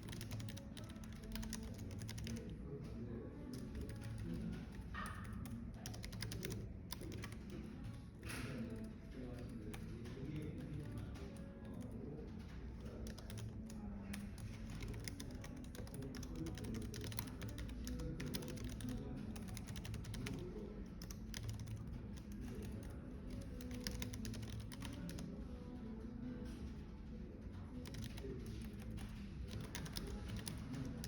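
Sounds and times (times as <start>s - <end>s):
cafe background ambience: 0.0s - 31.0s
keyboard typing: 0.0s - 31.0s.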